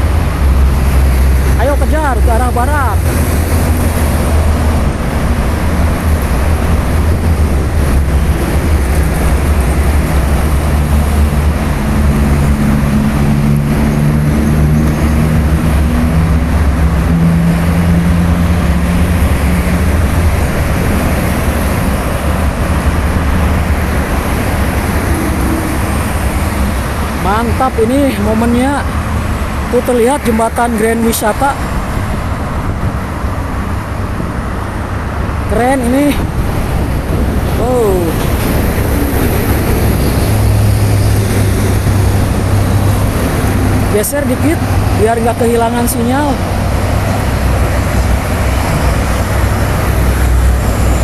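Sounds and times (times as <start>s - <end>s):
passing vehicle engine: 0.0s - 51.0s
traffic rumble: 0.0s - 51.0s.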